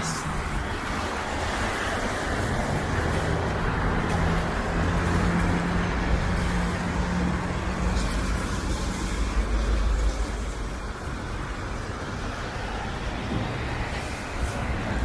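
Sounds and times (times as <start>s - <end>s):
large vehicle engine humming: 0.0s - 15.0s
traffic on wet road: 0.0s - 15.0s.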